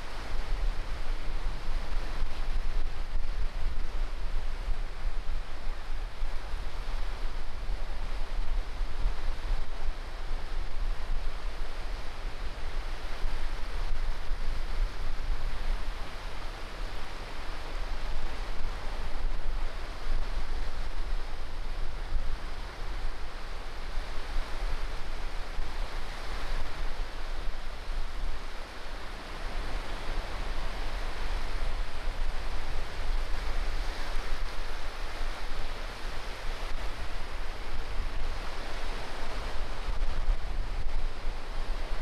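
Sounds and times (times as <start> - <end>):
waves breaking on beach: 0.0 - 42.0.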